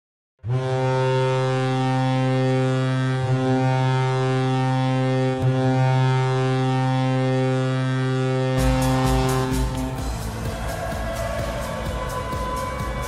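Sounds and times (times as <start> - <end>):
deep goal horn blast: 0.4 - 13.0.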